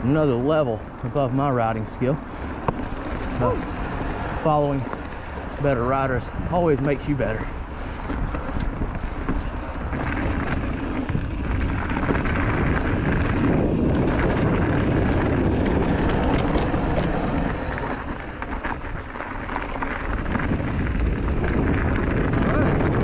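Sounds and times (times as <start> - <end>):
bike tyre noise on trail: 0.0 - 23.0
rumbling wind: 0.0 - 23.0.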